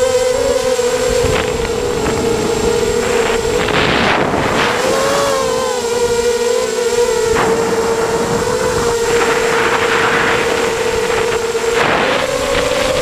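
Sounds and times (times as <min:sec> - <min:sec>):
drone motors and propellers whining: 0:00.0 - 0:13.0
wind rushing on microphone: 0:00.0 - 0:13.0.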